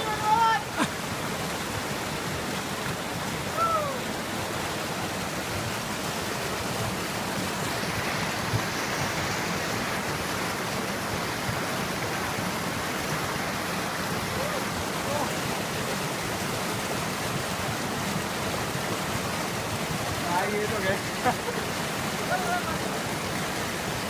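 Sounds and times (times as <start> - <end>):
river water flowing fast: 0.0 - 24.0.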